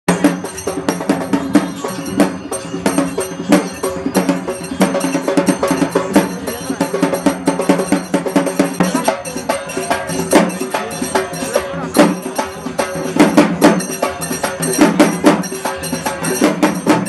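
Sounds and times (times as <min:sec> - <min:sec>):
fast folk dance music with drums: 0:00.1 - 0:17.0
sharp jingling strikes: 0:00.1 - 0:17.0.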